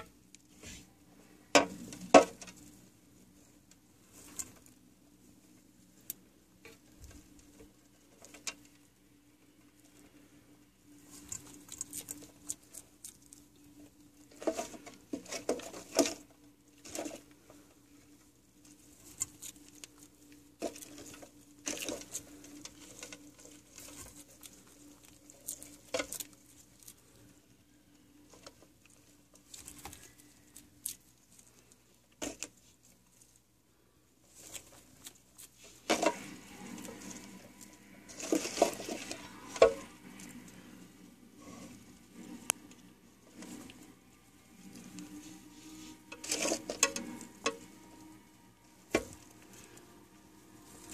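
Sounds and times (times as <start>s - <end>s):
faint low hum: 0.0s - 50.9s
scratching and rustling on bark chips: 0.0s - 50.9s.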